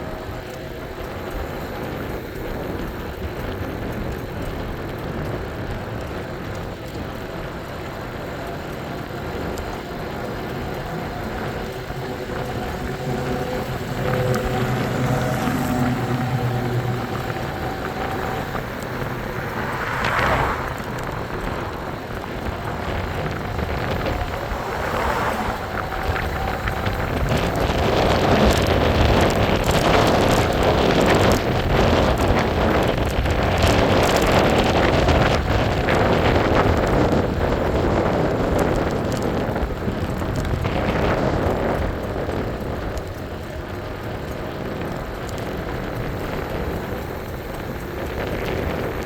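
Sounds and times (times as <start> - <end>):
road noise: 0.0 - 49.0
wind over microphone: 0.0 - 49.0.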